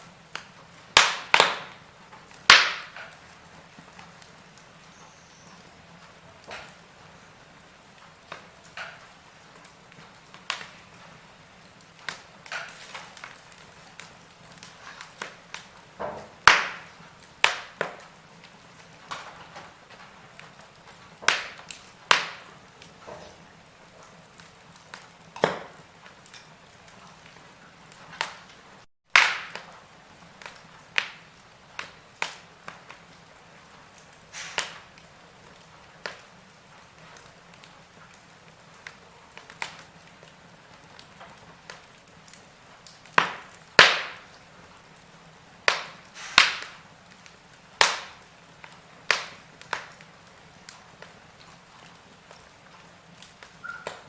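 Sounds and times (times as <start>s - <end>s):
faint steady hiss: 0.0s - 54.0s
sharp pops of fire: 0.0s - 54.0s
wood fire crackling: 0.0s - 54.0s.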